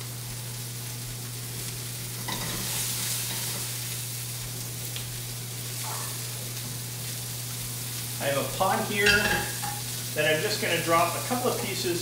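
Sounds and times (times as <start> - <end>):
tomatoes sizzling in frying pan: 0.0 - 12.0.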